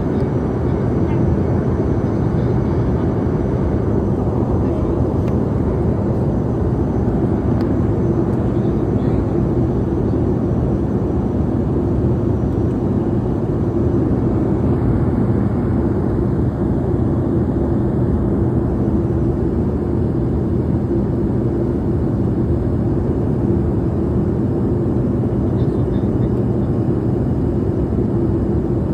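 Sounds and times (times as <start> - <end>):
airliner engines rumbling: 0.0 - 28.9.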